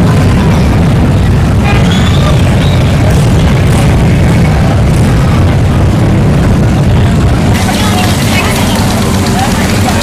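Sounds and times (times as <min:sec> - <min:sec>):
motorcycle engines rumbling: 0:00.0 - 0:10.0.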